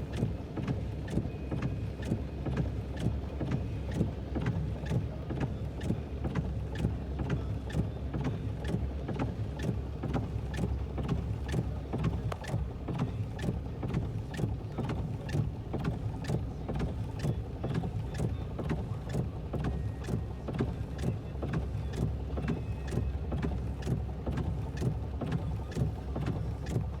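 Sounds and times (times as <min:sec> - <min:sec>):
low vehicle rumble: 0:00.0 - 0:27.0
raindrops tapping on vehicle roof: 0:00.0 - 0:27.0.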